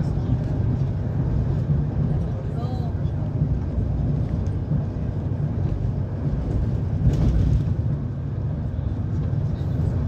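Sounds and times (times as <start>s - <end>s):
train wheels on rails rumbling: 0.0s - 10.0s.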